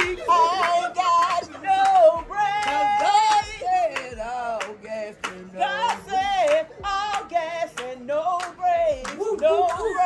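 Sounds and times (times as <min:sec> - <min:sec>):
sharp claps: 0:00.0 - 0:09.9
music: 0:00.0 - 0:10.0.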